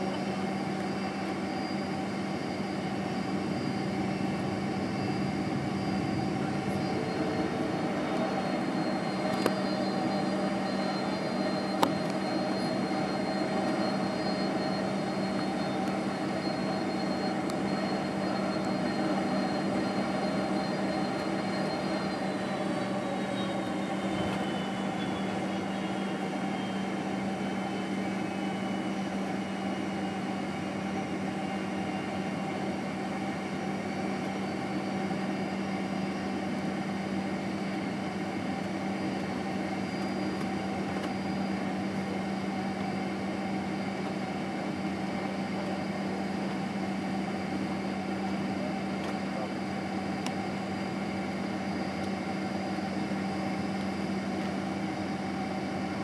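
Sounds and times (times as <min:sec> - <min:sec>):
jet engines at low thrust: 0:00.0 - 0:56.0.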